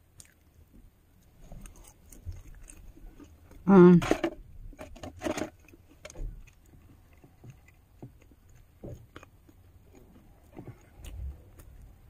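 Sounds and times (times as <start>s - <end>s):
person chewing food: 0.0s - 3.7s, 5.1s - 12.0s.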